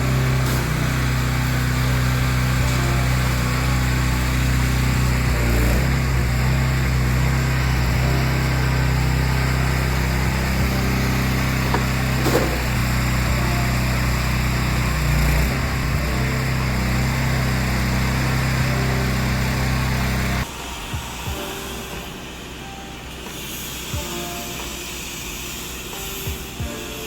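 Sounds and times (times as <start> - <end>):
pressure washer engine running: 0.0 - 27.0.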